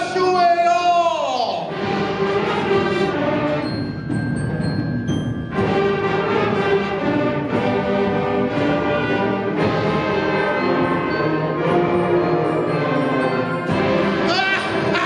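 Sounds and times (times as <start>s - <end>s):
concert band playing: 1.7s - 15.0s.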